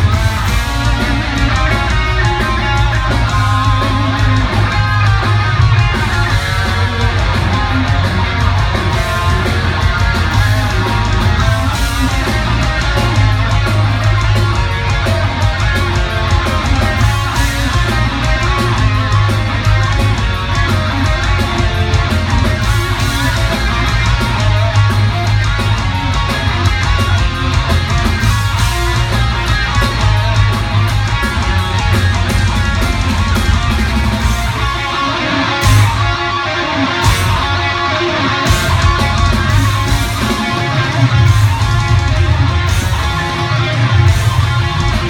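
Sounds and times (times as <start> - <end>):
bass guitar: 0.0 - 45.0
distorted electric guitars: 0.0 - 45.0
pounding drums: 0.0 - 45.0.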